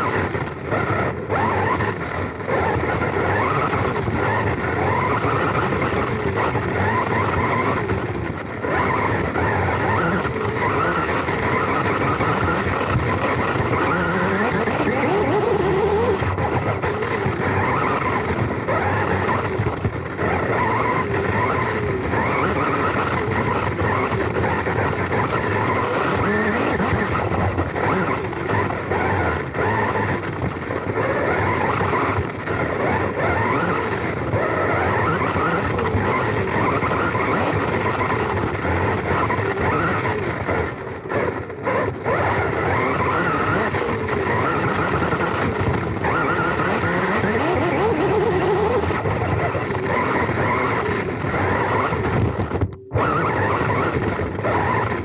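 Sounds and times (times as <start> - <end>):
drivetrain and tyre noise: 0.0 - 55.0
electric motor whining: 0.0 - 55.0.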